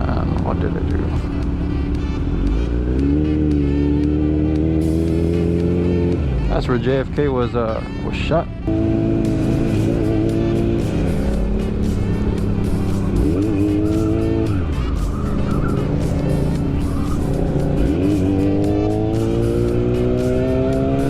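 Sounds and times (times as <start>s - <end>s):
motorcycle engine accelerating: 0.0s - 6.5s, 8.5s - 21.0s.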